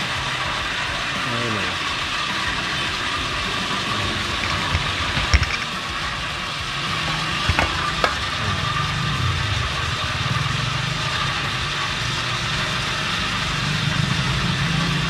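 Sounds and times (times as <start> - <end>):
electric water pump humming: 0.0 - 15.0.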